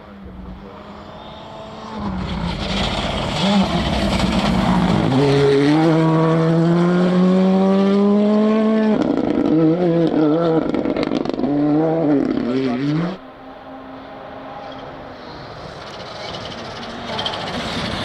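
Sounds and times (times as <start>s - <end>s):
rally car engine at full throttle: 0.0s - 18.0s.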